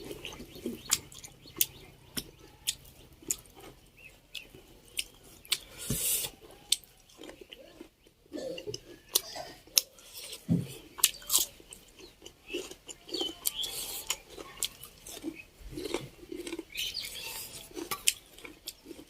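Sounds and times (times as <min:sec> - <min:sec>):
person chewing and biting food: 0:00.0 - 0:19.0.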